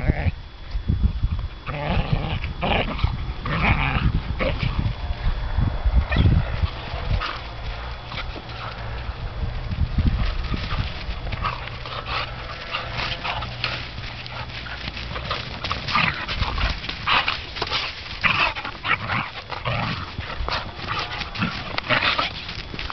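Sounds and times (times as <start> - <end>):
dogs growling and barking: 1.6 - 22.9
paws scuffling on grass: 2.9 - 22.9.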